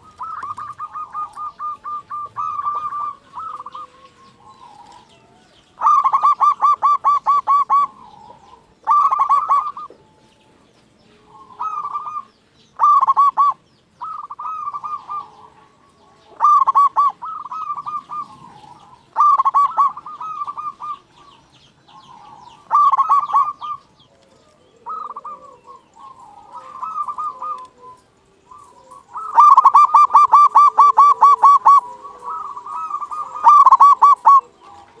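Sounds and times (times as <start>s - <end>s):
dove cooing: 0.0s - 35.0s.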